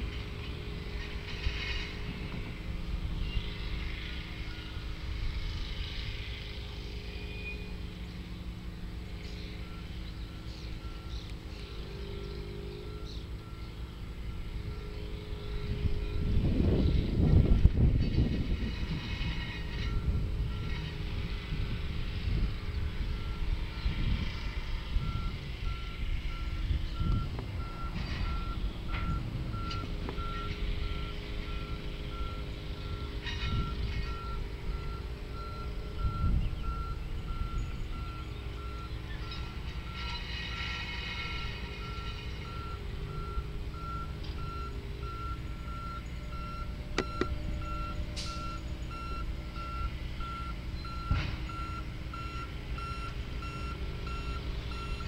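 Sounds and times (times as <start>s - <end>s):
truck reversing alarm beeps: 0.0s - 55.0s.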